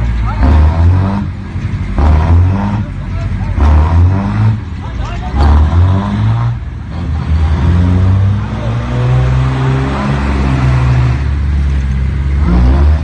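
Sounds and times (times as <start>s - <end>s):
heavy diesel engine running hard: 0.0s - 13.0s.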